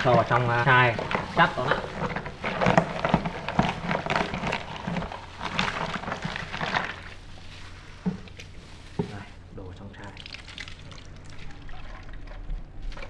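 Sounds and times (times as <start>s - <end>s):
wet squelches of scooped fruit: 0.0s - 13.0s.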